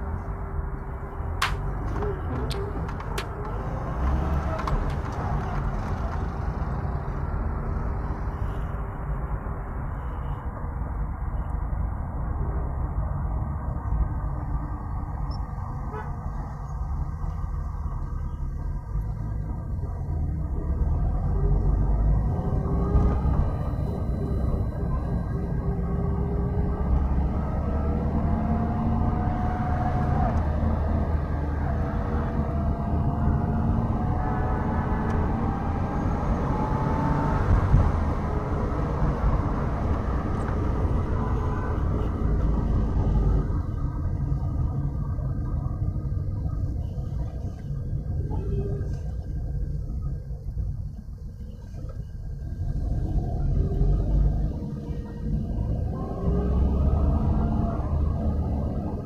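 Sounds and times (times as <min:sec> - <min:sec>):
car engine: 0:00.0 - 0:59.0
road rumble: 0:00.0 - 0:59.0.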